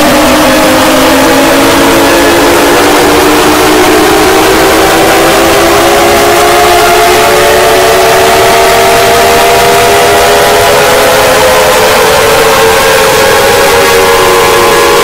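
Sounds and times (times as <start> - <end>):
distorted alarm siren: 0.0 - 15.0.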